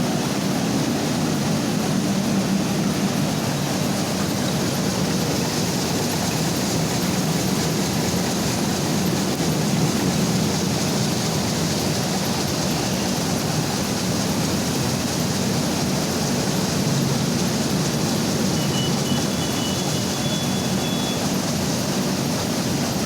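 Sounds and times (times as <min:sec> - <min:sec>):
rice mill machine rumbling: 0:00.0 - 0:23.0.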